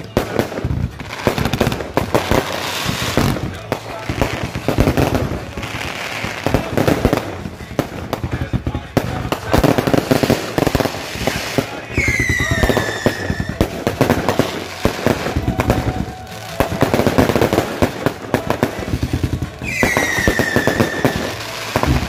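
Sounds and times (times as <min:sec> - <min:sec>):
fireworks bangs and crackles: 0:00.0 - 0:22.0
whistling firework: 0:00.0 - 0:22.0.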